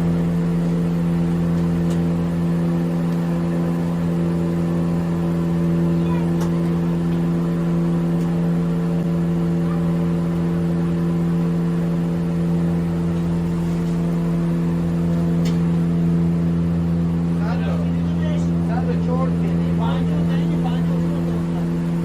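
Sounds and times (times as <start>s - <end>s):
motor running steadily: 0.0s - 22.0s.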